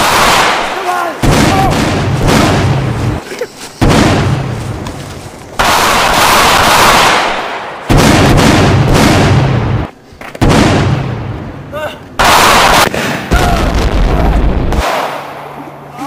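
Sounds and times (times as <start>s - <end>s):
explosions rumbling: 0.0s - 3.2s, 3.8s - 4.8s, 5.6s - 11.6s, 12.2s - 15.1s.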